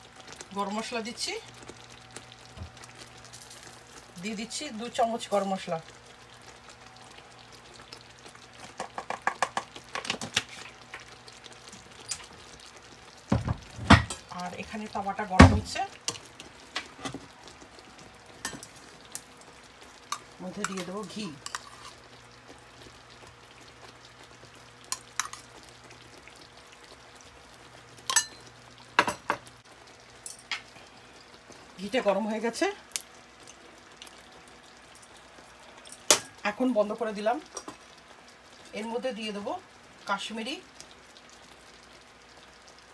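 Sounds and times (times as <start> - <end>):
ghee sizzling faintly: 0.0 - 42.9
thick gravy bubbling in pan: 0.0 - 42.9.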